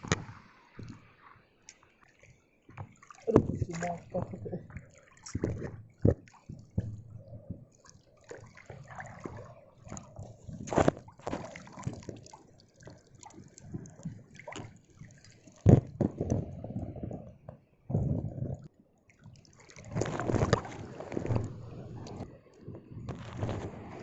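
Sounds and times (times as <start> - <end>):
seawater sloshing and splashing: 0.0 - 24.0.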